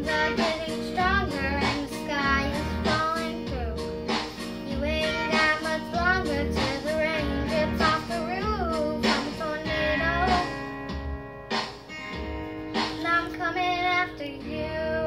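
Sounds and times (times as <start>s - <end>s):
girl singing with vibrato: 0.0s - 3.9s, 4.5s - 10.8s, 13.0s - 15.0s
country backing track: 0.0s - 15.0s.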